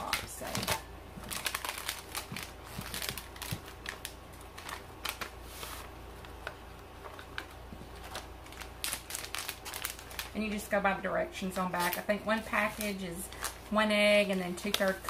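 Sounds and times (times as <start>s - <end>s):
paper packets crinkling: 0.0s - 10.8s, 11.4s - 15.0s.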